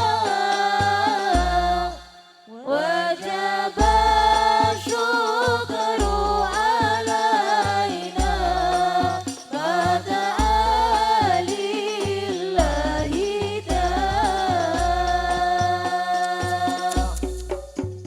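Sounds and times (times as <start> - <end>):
deep bass beat: 0.0 - 2.1, 3.8 - 18.0.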